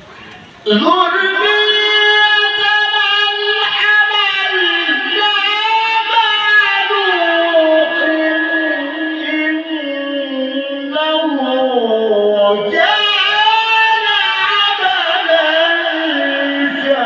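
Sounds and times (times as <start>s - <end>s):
man reciting melodically: 0.6s - 17.0s.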